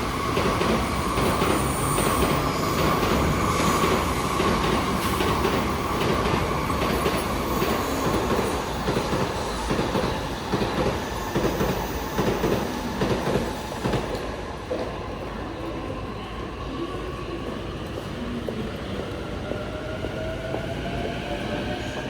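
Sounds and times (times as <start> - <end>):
train wheels and brakes whining: 0.0 - 22.0.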